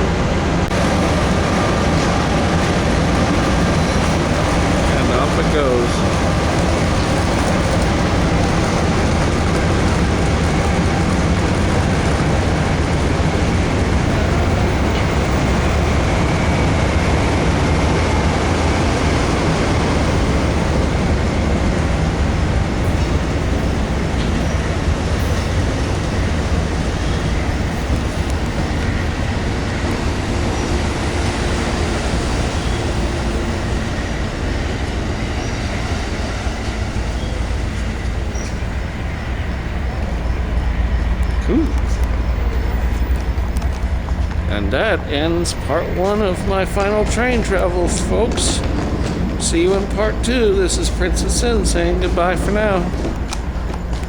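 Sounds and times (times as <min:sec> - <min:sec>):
passenger train rolling past: 0:00.0 - 0:54.0.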